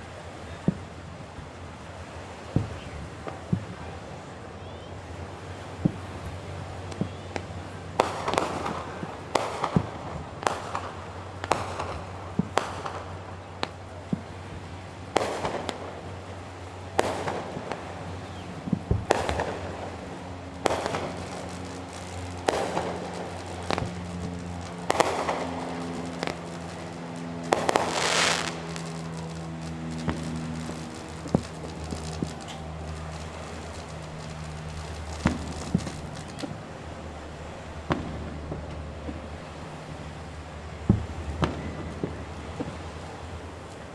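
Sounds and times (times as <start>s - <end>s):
fireworks bangs: 0.0s - 43.9s.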